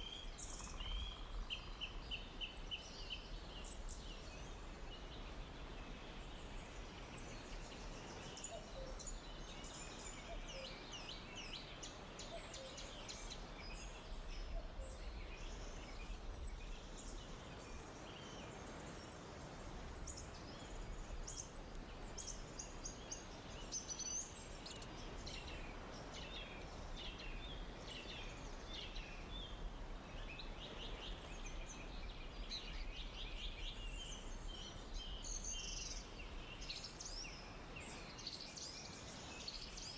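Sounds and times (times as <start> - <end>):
low background hiss and rumble: 0.0 - 39.9
songbirds chirping and trilling: 0.0 - 39.9.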